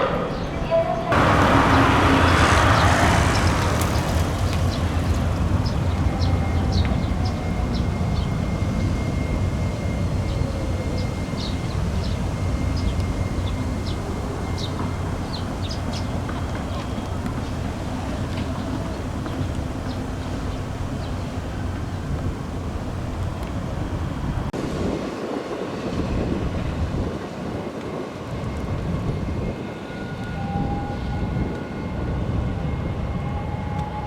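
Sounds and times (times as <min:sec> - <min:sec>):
tram hum and rumble: 0:00.0 - 0:34.0.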